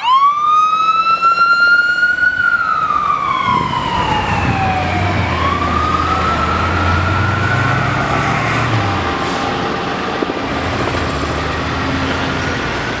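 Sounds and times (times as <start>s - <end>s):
fire engine siren wailing: 0.0s - 13.0s
heavy truck engine: 2.4s - 13.0s.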